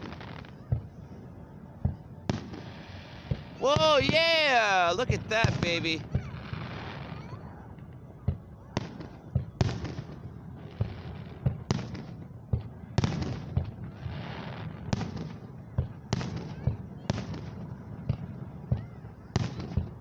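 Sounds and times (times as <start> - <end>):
fireworks hissing crackle: 0.0 - 1.3, 1.9 - 8.0, 8.7 - 18.3
fireworks bangs: 0.0 - 20.0.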